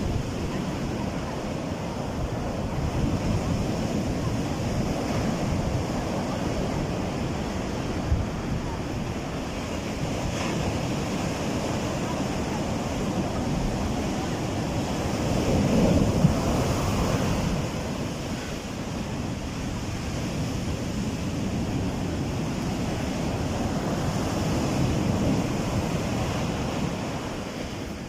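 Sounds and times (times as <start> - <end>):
heavy surf breaking: 0.0 - 28.0
wind buffeting microphone: 0.0 - 28.0.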